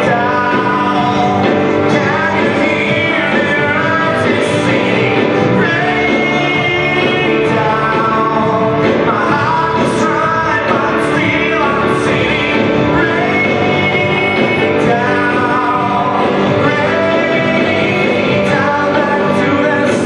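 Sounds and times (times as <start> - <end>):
live rock band playing: 0.0 - 20.0
people singing: 0.0 - 20.0.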